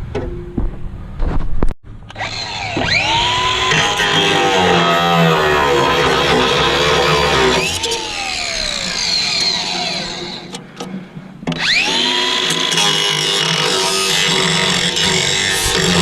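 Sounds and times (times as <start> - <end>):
angle grinder whine: 2.0 - 10.8, 11.5 - 16.0.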